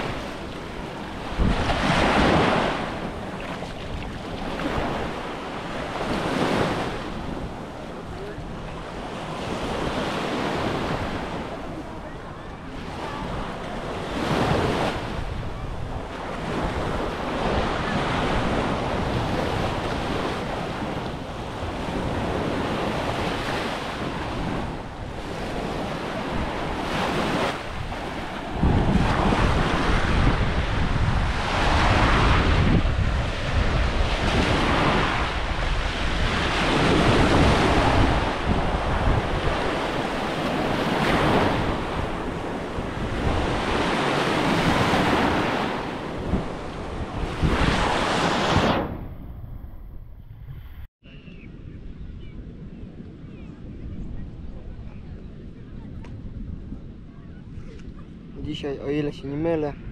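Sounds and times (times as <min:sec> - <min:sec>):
small waves breaking on shore: 0:00.0 - 0:49.0
wind rumble on microphone: 0:00.0 - 0:59.9.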